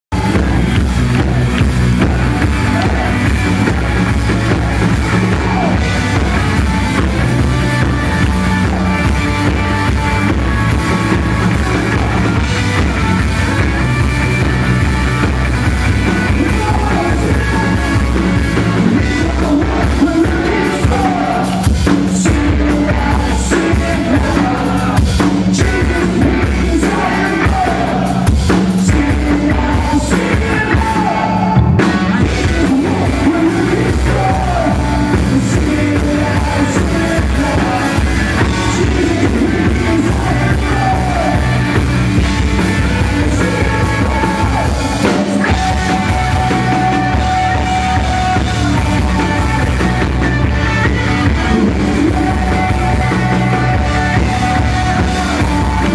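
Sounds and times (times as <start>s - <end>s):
man singing: 0.0s - 55.9s
rock band playing: 0.0s - 55.9s.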